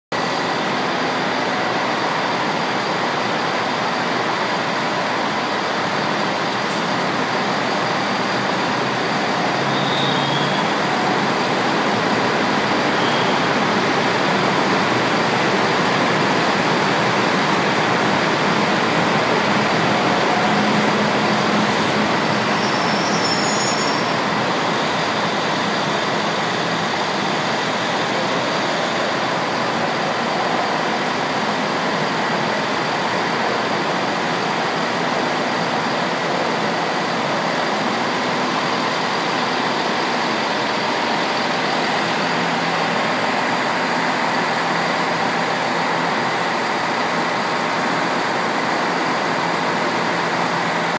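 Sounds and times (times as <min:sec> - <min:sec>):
train rumble and hum: 0:00.2 - 0:50.9.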